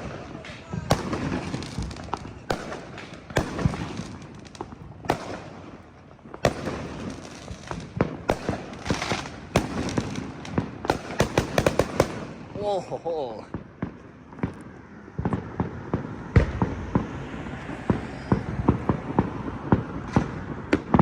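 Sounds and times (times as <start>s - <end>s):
fireworks and firecrackers bangs: 0.0s - 21.0s.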